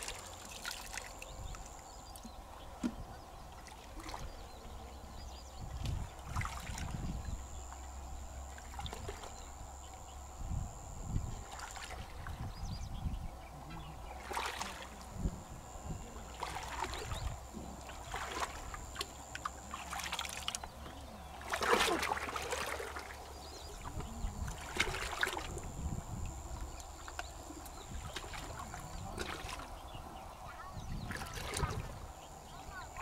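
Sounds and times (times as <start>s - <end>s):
river water splashing: 0.0s - 2.2s, 2.8s - 5.2s, 6.2s - 10.0s, 11.3s - 12.5s, 14.0s - 29.9s, 31.0s - 33.0s.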